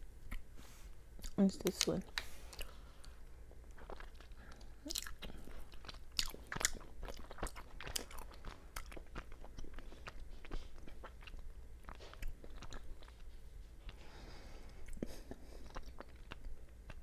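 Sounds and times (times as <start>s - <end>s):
chewing soft rice cake: 0.2s - 17.0s.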